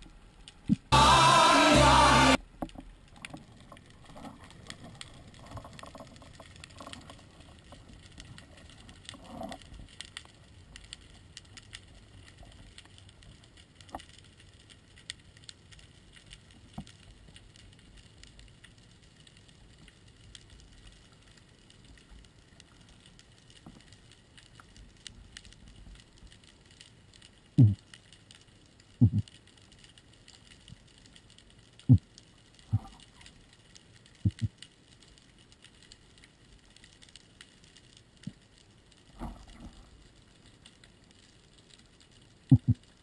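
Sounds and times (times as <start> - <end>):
underwater crackle of tiny clicks: 0.0 - 0.9, 2.4 - 43.0.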